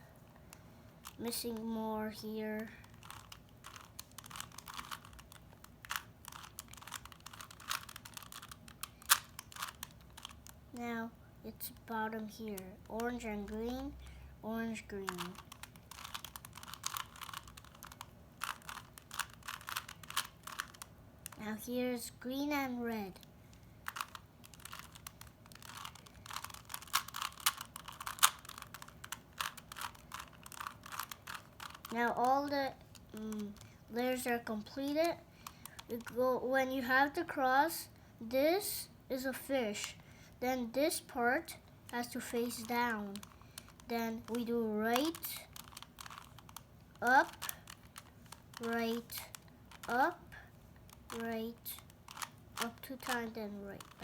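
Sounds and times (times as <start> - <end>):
puzzle cube clicking and scraping: 2.6 - 10.6, 14.7 - 36.8, 40.9 - 54.0.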